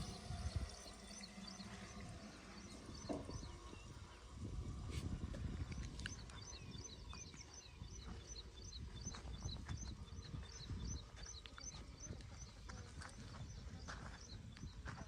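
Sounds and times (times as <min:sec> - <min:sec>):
small bird chirping: 0:00.0 - 0:04.3, 0:05.6 - 0:15.0
low uneven rumble: 0:00.0 - 0:15.0.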